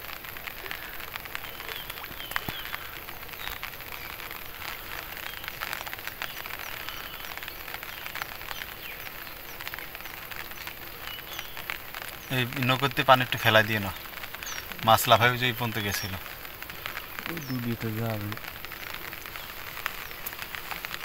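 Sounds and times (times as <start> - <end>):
light rain pattering on water: 0.0 - 21.0.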